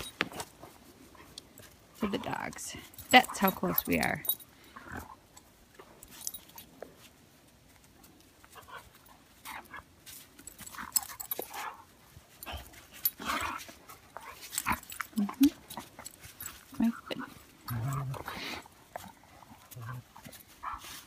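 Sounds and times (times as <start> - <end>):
dogs panting: 0.0 - 6.8, 8.4 - 21.0.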